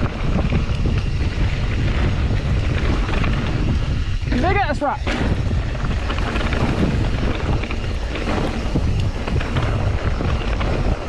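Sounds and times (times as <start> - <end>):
bike rattles and knocks: 0.0 - 11.0
bike tyres rumbling over rocks: 0.0 - 11.0
wind on microphone: 0.0 - 11.0.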